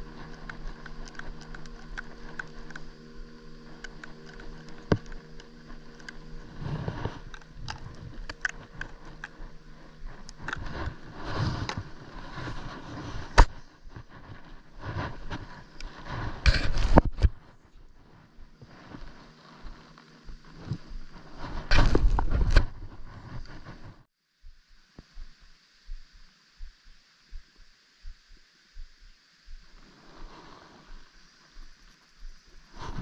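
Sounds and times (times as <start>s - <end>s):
hands and clothing rustling: 0.0s - 24.1s, 29.5s - 33.0s
steady low hum: 0.0s - 33.0s
wind rumbling on microphone: 0.0s - 33.0s.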